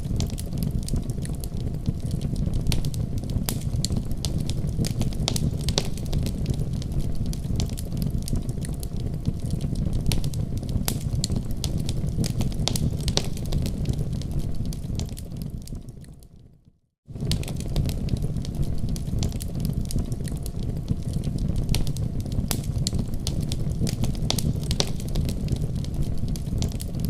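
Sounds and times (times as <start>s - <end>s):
wood fire crackling: 0.0s - 16.5s, 17.1s - 27.0s.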